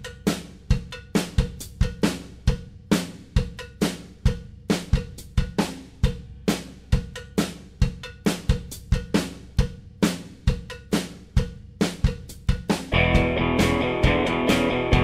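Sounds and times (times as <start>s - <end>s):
driving drum beat: 0.0s - 15.0s.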